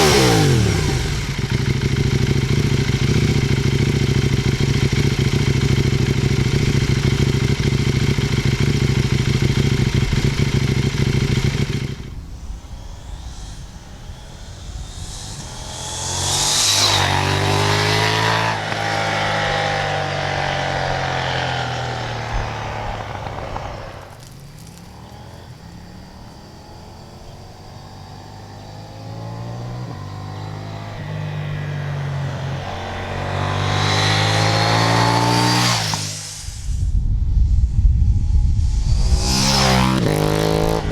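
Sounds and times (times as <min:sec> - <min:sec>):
motorcycle engine running: 0:00.0 - 0:40.9
motorcycle passing by: 0:00.0 - 0:40.9.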